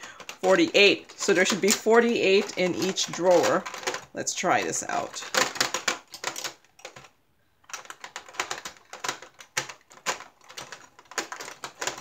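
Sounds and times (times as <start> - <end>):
plastic jars clicking together: 0.0 - 7.1, 7.7 - 12.0.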